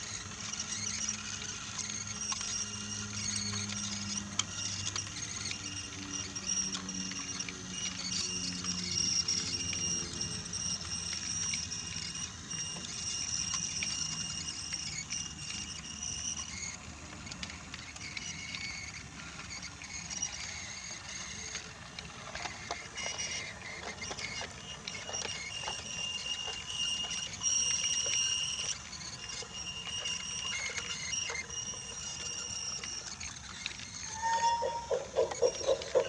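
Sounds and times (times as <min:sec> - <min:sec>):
toy train motor whining: 0:00.0 - 0:36.0
wheels clicking over track joints: 0:00.0 - 0:36.0.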